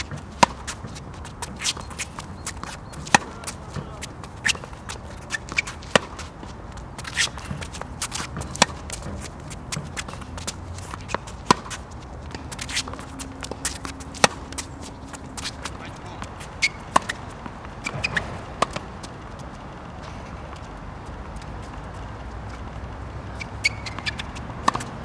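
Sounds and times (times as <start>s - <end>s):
tennis ball struck by rackets: 0.0s - 1.8s, 2.6s - 6.3s, 7.0s - 25.0s
tennis ball bouncing: 0.0s - 6.3s, 6.9s - 25.0s
shoes scuffing on court: 0.0s - 25.0s.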